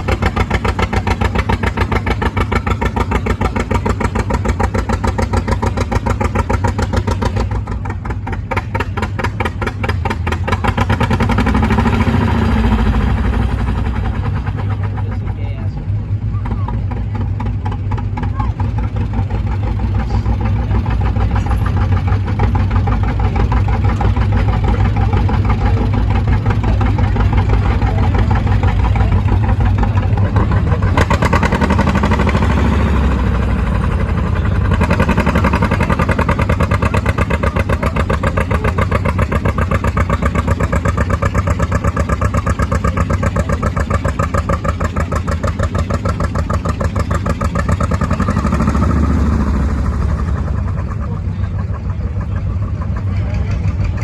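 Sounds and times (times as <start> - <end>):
loud engine running hard: 0.0 - 54.0.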